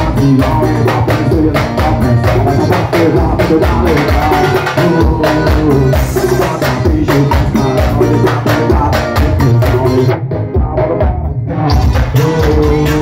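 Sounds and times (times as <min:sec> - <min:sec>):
loud dance music: 0:00.0 - 0:13.0.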